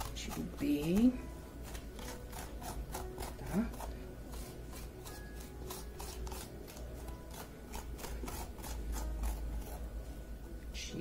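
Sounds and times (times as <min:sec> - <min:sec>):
metal spoon scraping pumpkin: 0:00.0 - 0:10.0.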